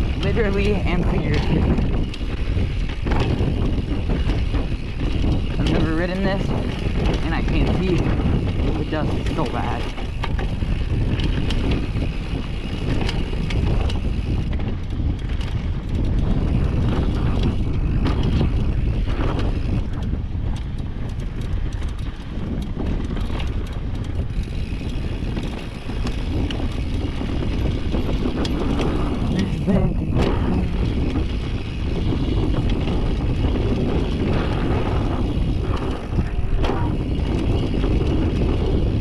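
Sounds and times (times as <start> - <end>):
bike clicking and rattling: 0.0 - 39.0
tyres rumbling on dirt trail: 0.0 - 39.0
wind buffeting microphone: 0.0 - 39.0.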